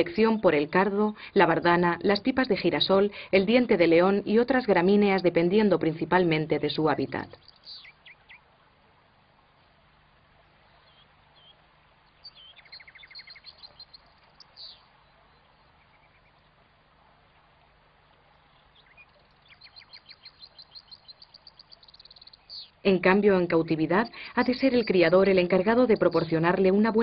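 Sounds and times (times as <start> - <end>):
goldfinches twittering: 0.0 - 8.5, 10.6 - 27.0.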